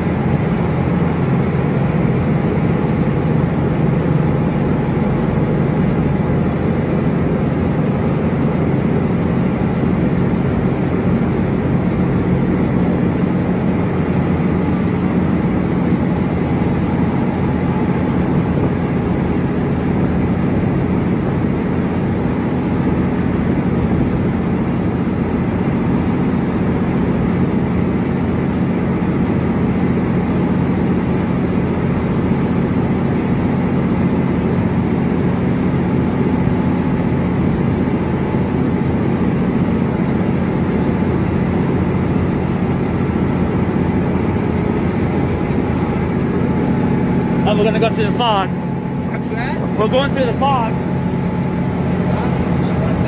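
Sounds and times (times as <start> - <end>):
propeller wash rushing: 0.0 - 53.0
ship engines droning: 0.0 - 53.0.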